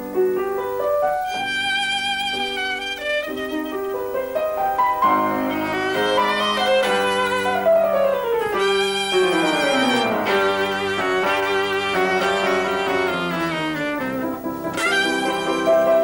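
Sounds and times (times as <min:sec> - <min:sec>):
piano accompaniment: 0:00.0 - 0:16.0
violin playing: 0:01.2 - 0:16.0.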